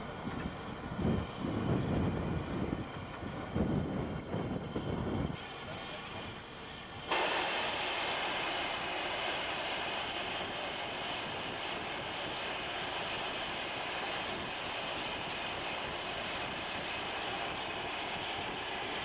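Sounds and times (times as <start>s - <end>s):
steam hissing from engine: 0.0s - 19.0s.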